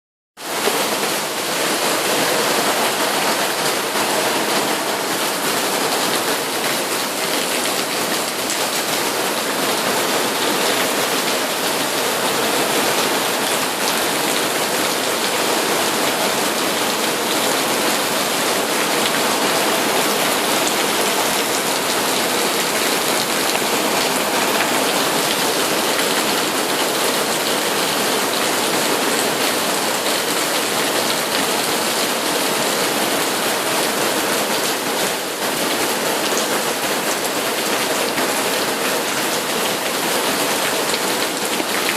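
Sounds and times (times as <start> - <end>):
heavy rain falling: 0.4 - 41.9.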